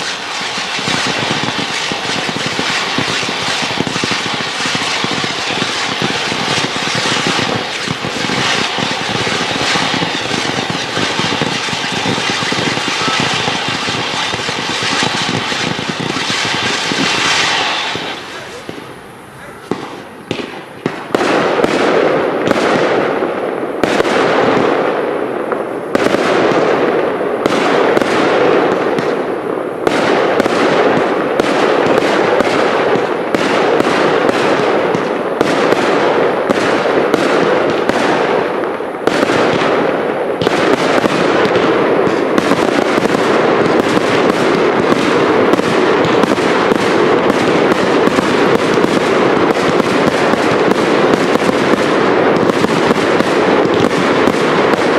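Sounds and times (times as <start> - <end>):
fireworks bangs and pops: 0.0 - 54.9.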